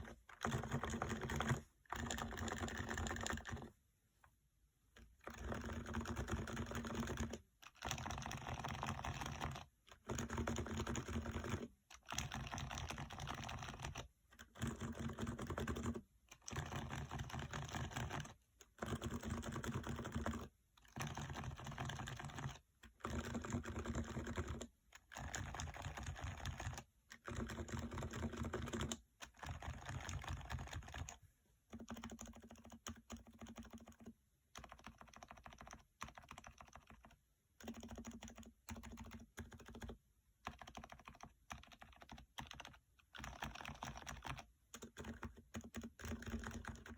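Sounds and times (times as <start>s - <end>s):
muffled keyboard typing: 0.0s - 3.8s, 4.9s - 46.9s.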